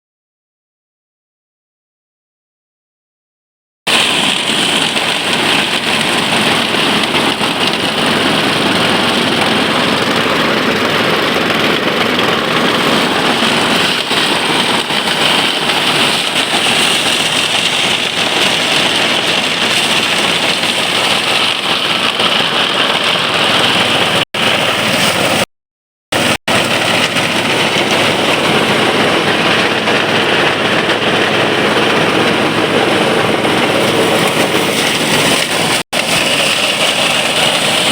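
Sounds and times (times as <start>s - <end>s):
threshing machine running: 3.9s - 25.5s, 26.1s - 37.9s.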